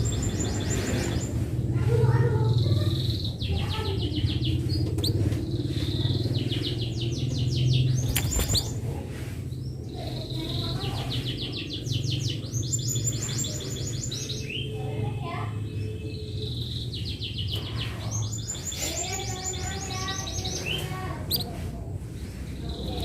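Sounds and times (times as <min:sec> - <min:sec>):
canary singing trills: 0:00.0 - 0:08.8, 0:09.5 - 0:23.0
steady low hum: 0:00.0 - 0:19.0.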